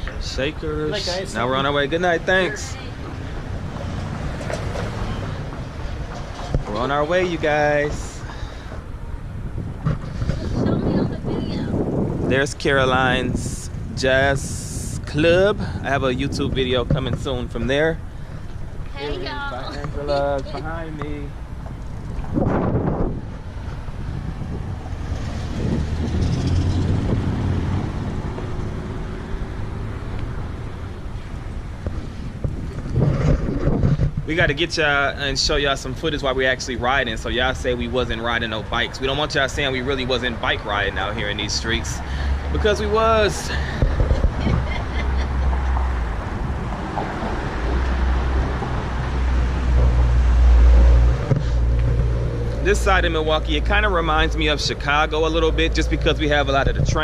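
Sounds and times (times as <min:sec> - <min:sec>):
road rumble: 0:00.0 - 0:57.0
vehicle engine drone: 0:00.0 - 0:57.0
wind buffeting microphone: 0:00.0 - 0:57.0.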